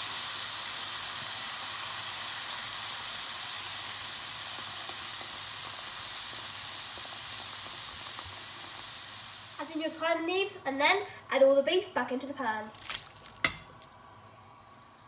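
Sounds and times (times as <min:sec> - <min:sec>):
onions sizzling in a frying pan: 0:00.0 - 0:10.6, 0:12.3 - 0:14.9.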